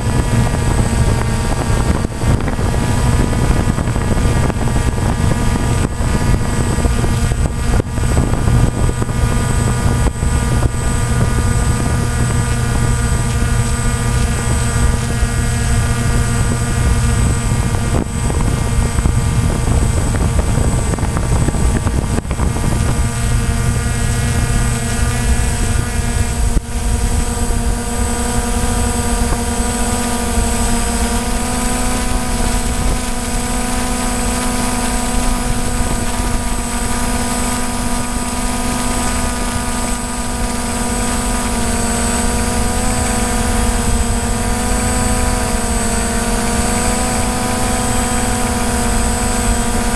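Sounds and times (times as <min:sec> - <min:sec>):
drone motors buzzing whine: 0:00.0 - 0:49.9
propeller wash rush: 0:00.0 - 0:49.9.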